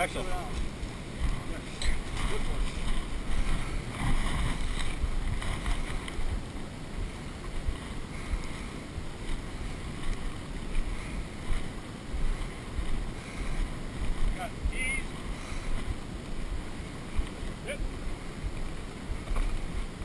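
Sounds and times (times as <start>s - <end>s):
steady outdoor noise: 0.0s - 20.0s
wind buffeting microphone: 0.0s - 20.0s.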